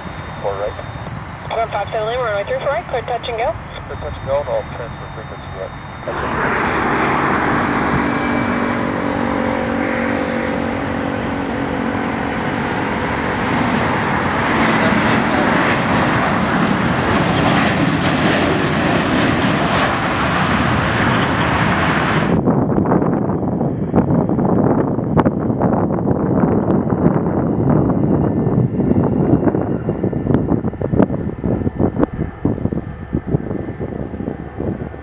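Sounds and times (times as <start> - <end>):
jet engine whine: 0.0 - 35.0
wind buffeting microphone: 0.0 - 35.0.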